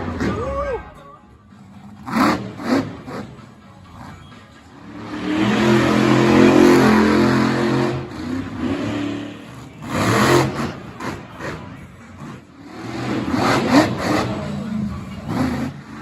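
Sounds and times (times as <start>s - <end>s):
truck engine revving hard: 1.7s - 16.0s.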